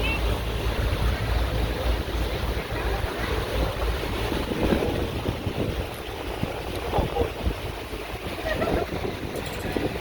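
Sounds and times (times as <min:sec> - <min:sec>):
boat noise: 0:00.0 - 0:10.0
rushing water: 0:00.0 - 0:10.0
wind buffeting microphone: 0:00.4 - 0:10.0.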